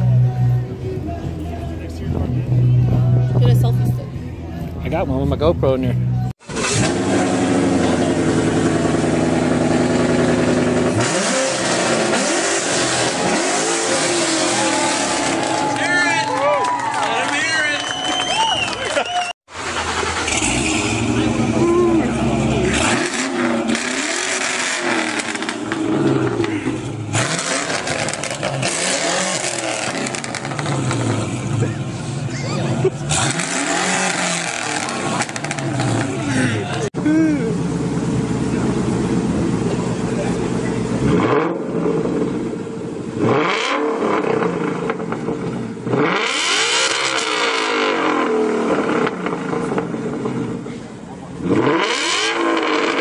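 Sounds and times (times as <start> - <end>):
car engine revving: 6.4 - 16.3, 19.5 - 53.0.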